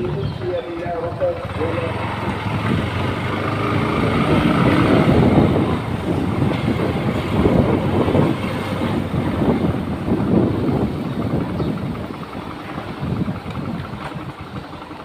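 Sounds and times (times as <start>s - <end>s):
motorcycle running: 0.0s - 15.0s
wind rumbling on microphone: 0.0s - 15.0s.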